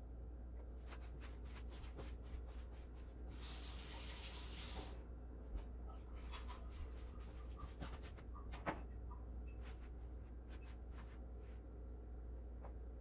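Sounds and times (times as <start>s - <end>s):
steady low hum: 0.0s - 4.4s, 5.0s - 13.0s.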